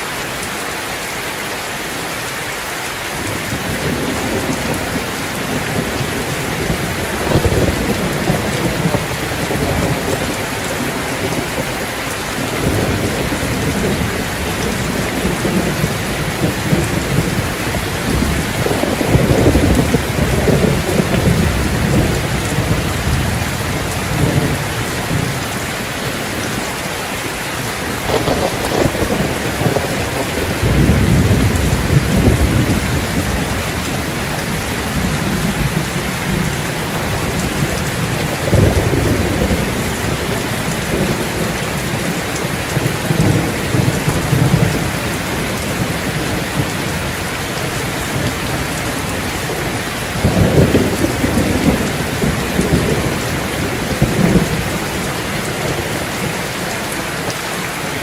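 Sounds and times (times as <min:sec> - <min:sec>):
steady rain falling: 0:00.0 - 0:58.0
thunder rumbling: 0:03.3 - 0:57.0.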